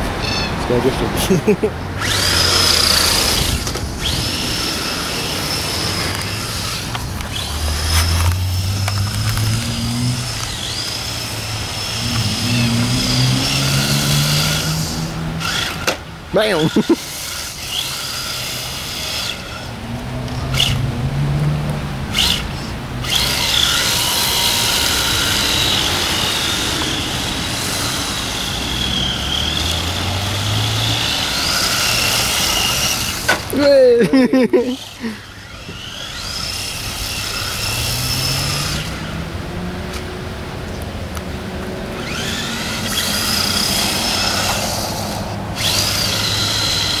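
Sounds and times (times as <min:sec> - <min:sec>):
rc car motor whining: 0:01.9 - 0:40.0, 0:41.9 - 0:47.0.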